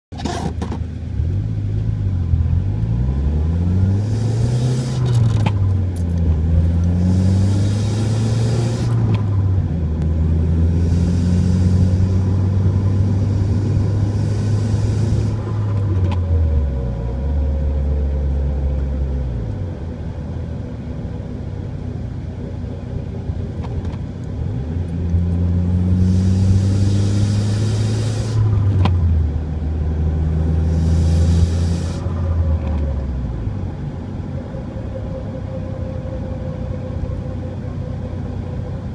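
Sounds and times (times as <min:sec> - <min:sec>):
car whining drone: 0:00.1 - 0:38.9.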